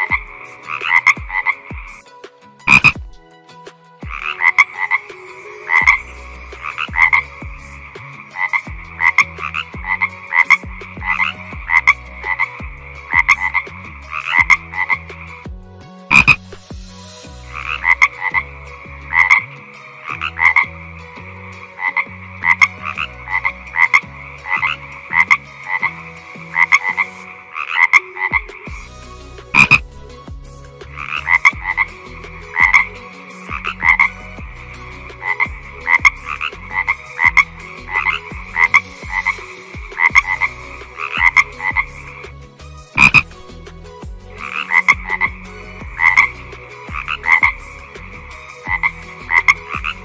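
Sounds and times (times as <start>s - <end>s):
frog croaking: 0.0s - 2.0s, 2.7s - 3.0s, 4.1s - 5.1s, 5.7s - 15.4s, 16.1s - 16.5s, 17.5s - 28.7s, 29.5s - 29.9s, 30.8s - 42.3s, 43.0s - 43.3s, 44.4s - 50.0s.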